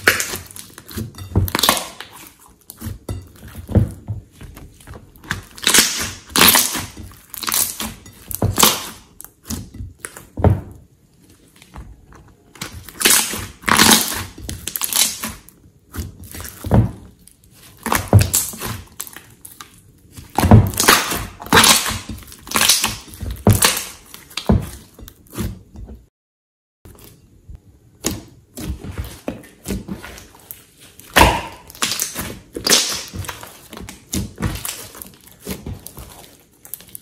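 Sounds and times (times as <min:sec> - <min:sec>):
slime squelching and popping: 0:00.0 - 0:10.6, 0:12.6 - 0:25.5, 0:28.0 - 0:37.0.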